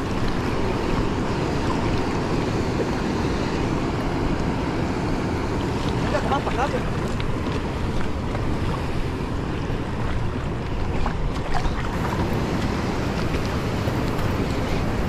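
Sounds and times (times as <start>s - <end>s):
fast-flowing river water: 0.0s - 15.0s
wind buffeting microphone: 0.0s - 15.0s.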